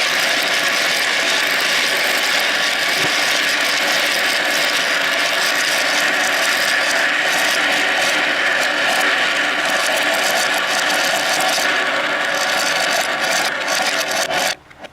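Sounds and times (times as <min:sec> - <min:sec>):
marbles rattling on plastic track: 0:00.0 - 0:14.6.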